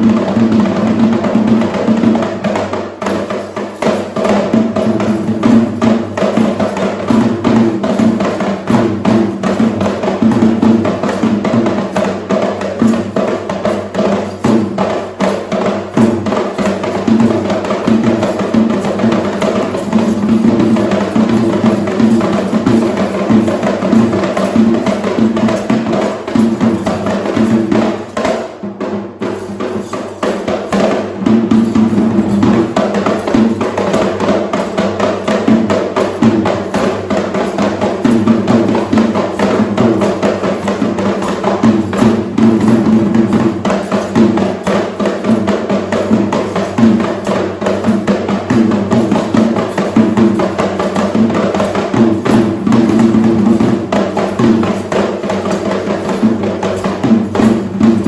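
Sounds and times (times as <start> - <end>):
fast traditional drumming: 0.0 - 58.0.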